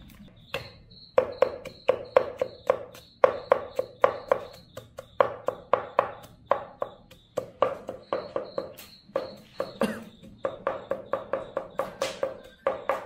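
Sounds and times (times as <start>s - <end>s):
crickets chirping: 0.0s - 13.0s
knife chopping on wooden board: 0.5s - 13.0s.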